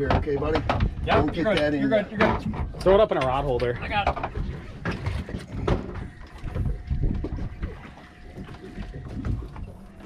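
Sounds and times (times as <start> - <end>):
water sloshing against hull: 0.0 - 10.0
wind buffeting microphone: 0.0 - 10.0.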